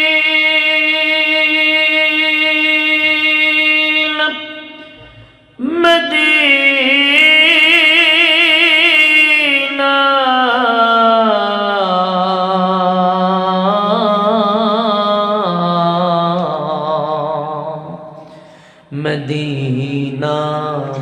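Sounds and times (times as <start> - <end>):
man singing into microphone: 0.0 - 21.0.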